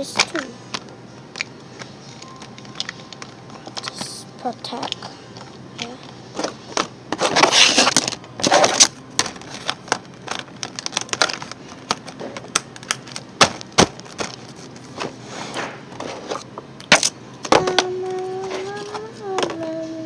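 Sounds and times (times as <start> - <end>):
plastic packaging rustling: 0.0 - 19.7.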